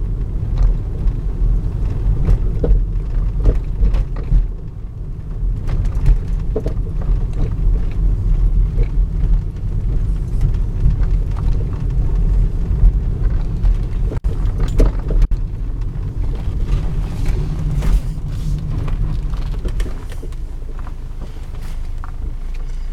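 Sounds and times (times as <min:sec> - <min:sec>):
road and drivetrain rumble: 0:00.0 - 0:22.9.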